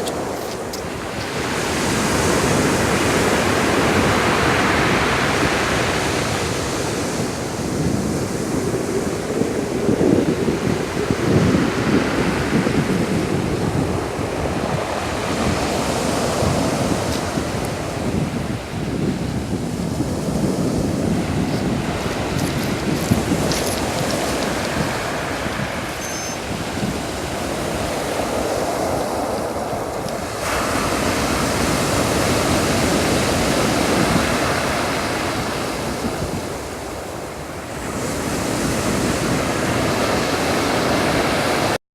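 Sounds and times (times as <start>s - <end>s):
sea waves washing onto shore: 0.0s - 41.8s
wind on microphone: 0.0s - 41.8s.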